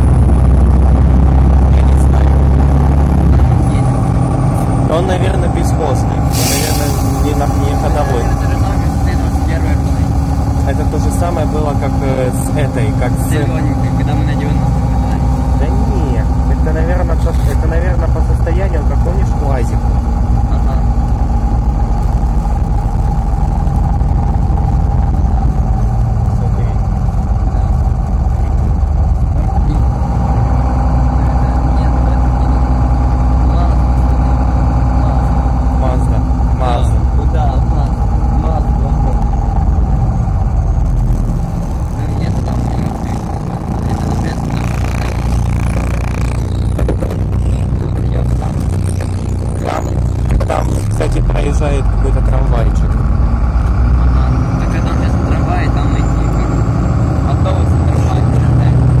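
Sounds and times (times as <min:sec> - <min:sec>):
bus engine drone: 0:00.0 - 0:59.0
high whine: 0:00.0 - 0:59.0
road rumble: 0:00.0 - 0:59.0
street noise: 0:00.0 - 0:59.0.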